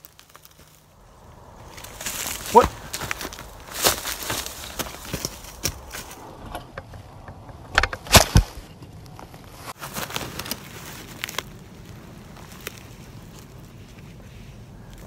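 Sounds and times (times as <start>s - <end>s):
scuffing and rustling in brush: 0.0s - 6.3s, 8.1s - 15.0s.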